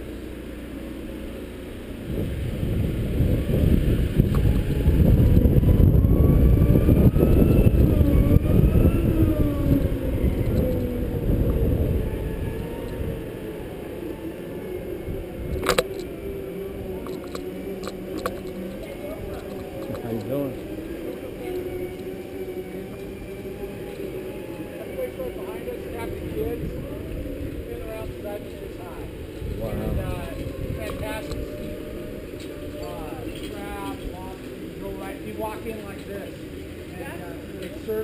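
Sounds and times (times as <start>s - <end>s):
faint whine: 0.0s - 38.0s
wind buffeting microphone: 2.0s - 36.9s.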